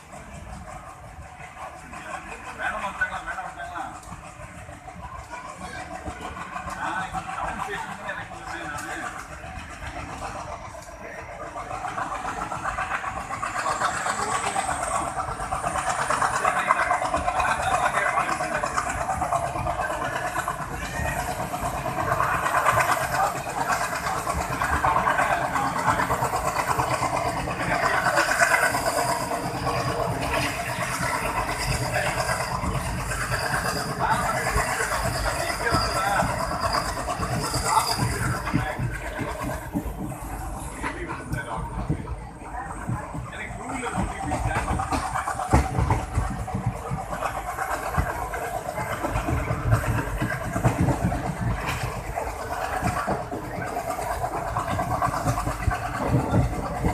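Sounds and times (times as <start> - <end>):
diesel locomotive engine rumbling: 0.0 - 56.9.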